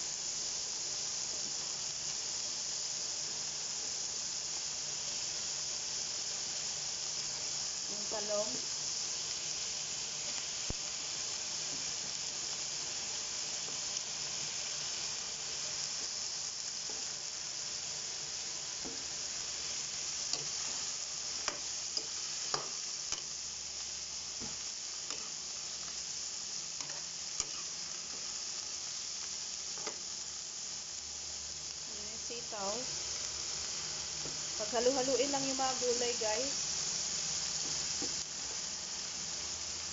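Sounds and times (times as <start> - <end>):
food sizzling in a wok: 0.0 - 39.9.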